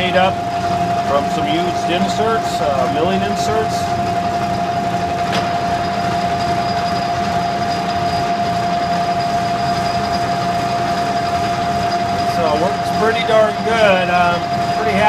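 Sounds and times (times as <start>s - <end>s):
metal lathe whine: 0.0s - 15.0s.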